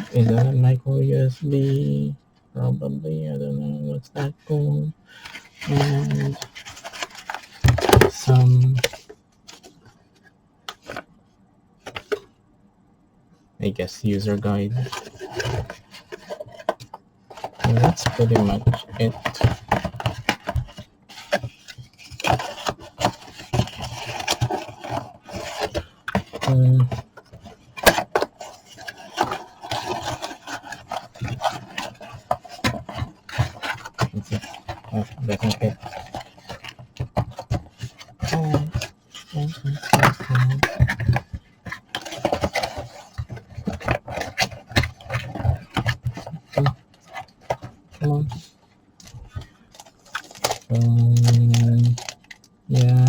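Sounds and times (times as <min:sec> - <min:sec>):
plastic box handling noise: 0:00.0 - 0:00.6, 0:05.1 - 0:11.1, 0:11.8 - 0:12.4, 0:14.7 - 0:53.0
plastic rubbing and scraping: 0:00.0 - 0:02.2, 0:03.5 - 0:11.1, 0:11.8 - 0:12.3, 0:14.1 - 0:53.0.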